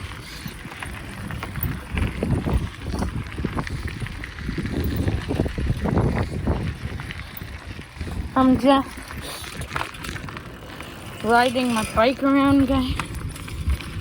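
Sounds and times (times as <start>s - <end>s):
bike knocks and rattles: 0.0s - 14.0s
wind buffeting microphone: 0.0s - 14.0s.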